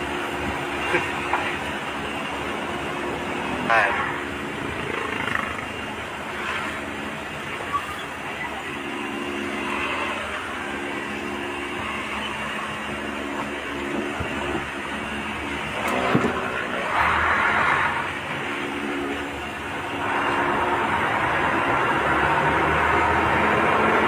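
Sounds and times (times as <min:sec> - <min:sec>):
road and wind noise: 0:00.0 - 0:24.0
truck engine drone: 0:00.0 - 0:24.0.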